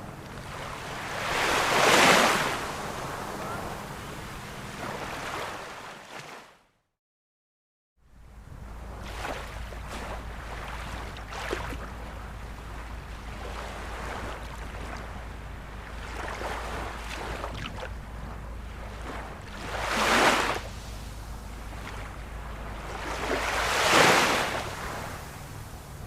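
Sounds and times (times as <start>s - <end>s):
ocean waves breaking: 0.0s - 6.6s, 8.1s - 26.0s.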